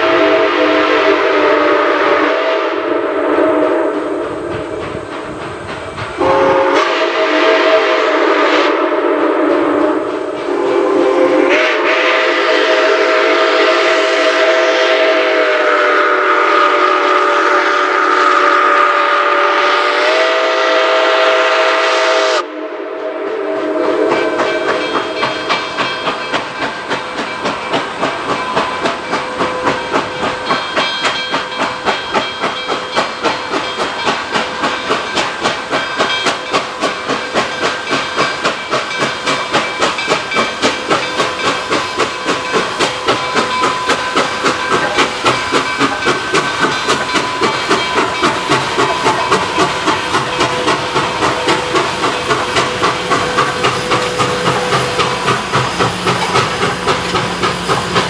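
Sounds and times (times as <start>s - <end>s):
steam locomotive whistle: 0.0s - 4.9s, 6.2s - 58.0s
steam hissing: 0.0s - 58.0s
steam locomotive exhaust chuffing: 0.0s - 58.0s.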